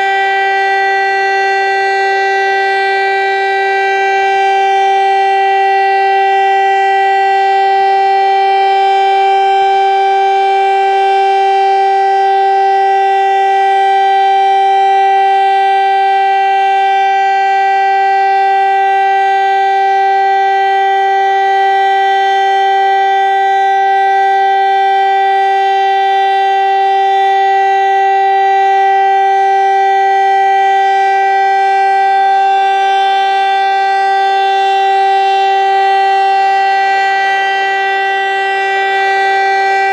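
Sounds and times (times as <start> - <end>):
motor siren steady tone: 0.0 - 39.9.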